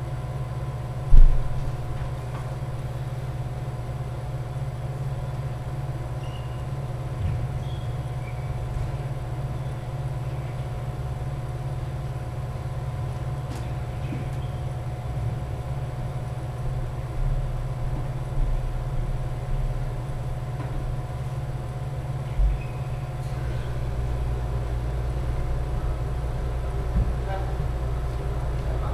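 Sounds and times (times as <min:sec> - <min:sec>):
gym background hum: 0:00.0 - 0:28.9.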